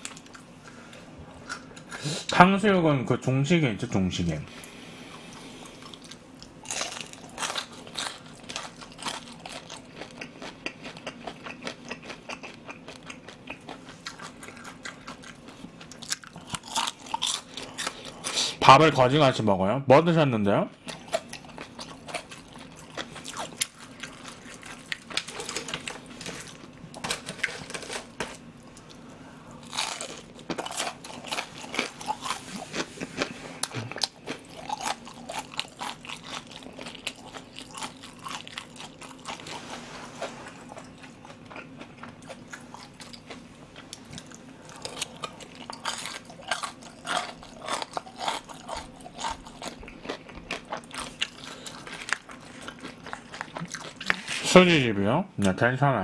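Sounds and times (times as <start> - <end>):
crunchy chewing of fried food: 0.0 - 2.0, 4.6 - 18.7, 20.8 - 54.6.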